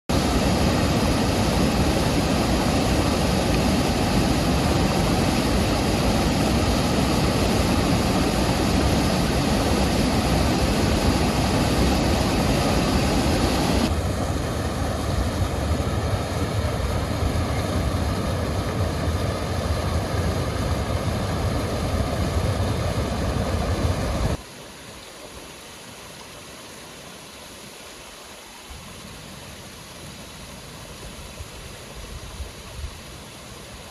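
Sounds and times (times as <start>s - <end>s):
flood water rushing: 0.1s - 33.9s.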